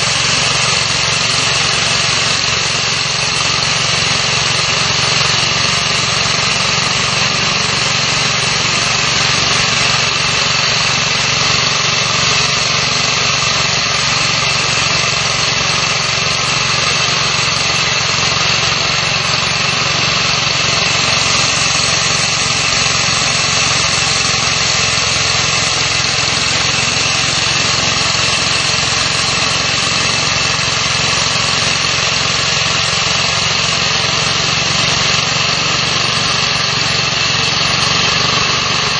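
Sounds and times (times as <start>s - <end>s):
core drill drilling concrete: 0.0s - 38.9s.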